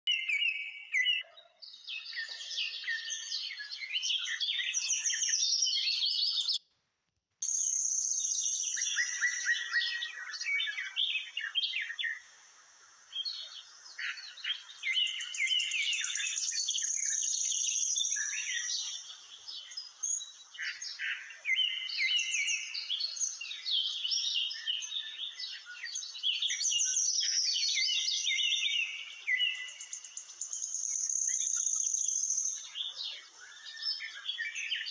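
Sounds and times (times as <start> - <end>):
small birds chirping: 0.0 - 6.6, 7.4 - 34.9.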